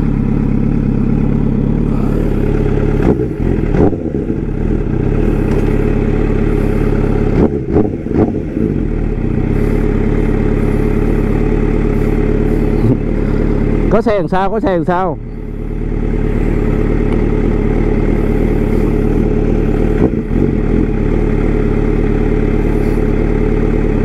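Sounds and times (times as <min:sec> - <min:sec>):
engine throttle blips: 0:00.0 - 0:24.0
motorcycle engine idling: 0:00.0 - 0:24.0.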